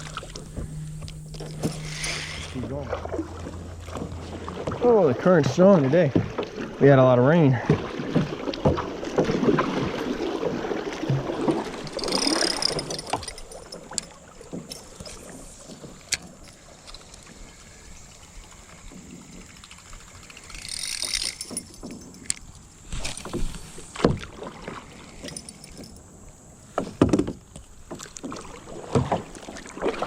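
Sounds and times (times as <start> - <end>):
water splashing around kayak: 0.0 - 30.0.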